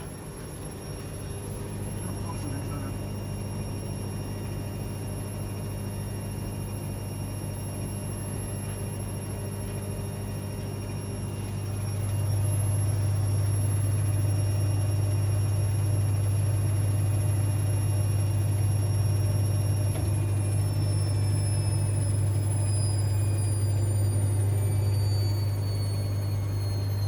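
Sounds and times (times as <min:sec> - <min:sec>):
faint high whine: 0:00.0 - 0:27.0
washing machine hum: 0:00.0 - 0:27.0.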